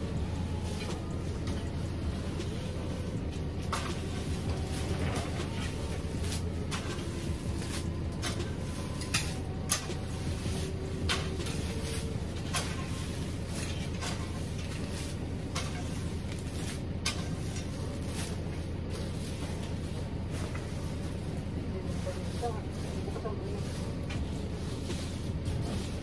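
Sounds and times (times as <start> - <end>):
rake scraping wood chips: 0.0 - 26.0
steady low hum: 0.0 - 26.0.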